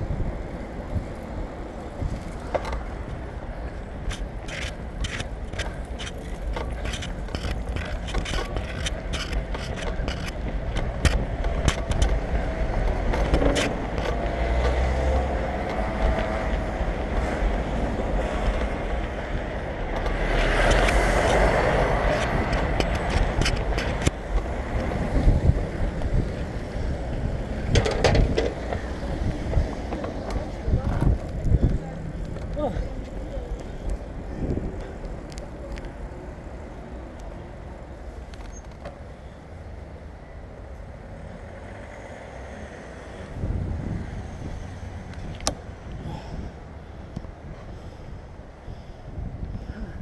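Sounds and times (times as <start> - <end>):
road traffic passing: 0.0 - 50.0
wind rumble on microphone: 0.0 - 50.0.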